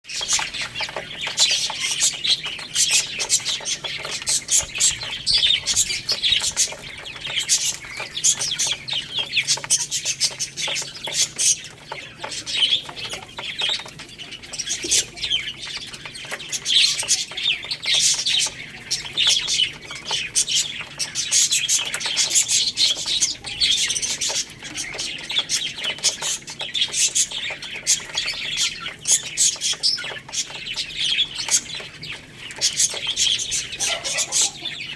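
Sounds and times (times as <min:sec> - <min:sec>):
baby chicks chirping: 0:00.0 - 0:34.9.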